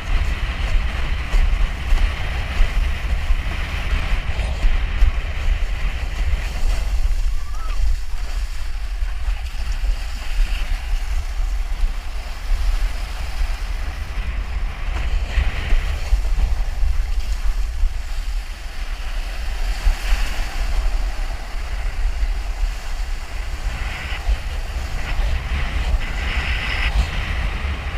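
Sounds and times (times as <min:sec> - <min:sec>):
surf and choppy water: 0:00.0 - 0:27.9
wind buffeting microphone: 0:00.0 - 0:27.9.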